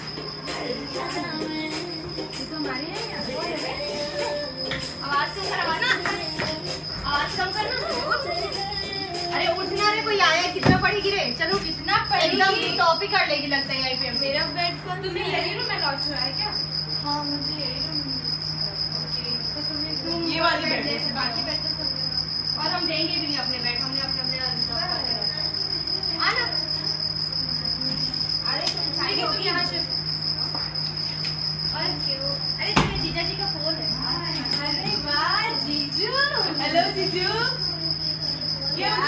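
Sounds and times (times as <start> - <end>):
women talking: 0.0 - 30.8, 31.6 - 39.0
high-pitched whine: 0.0 - 39.0.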